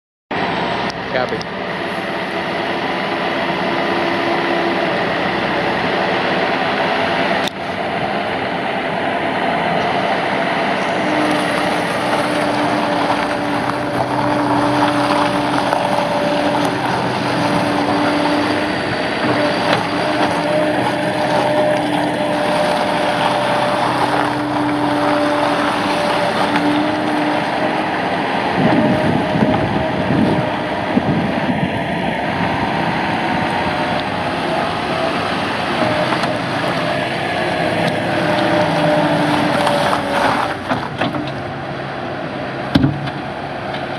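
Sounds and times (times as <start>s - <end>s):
diesel engine running: 0.3s - 43.9s
steady whine: 0.3s - 43.9s.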